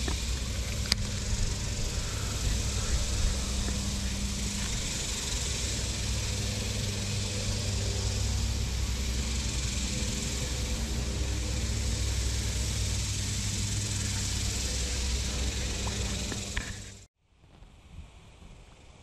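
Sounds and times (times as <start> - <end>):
boat motor running: 0.0 - 17.1.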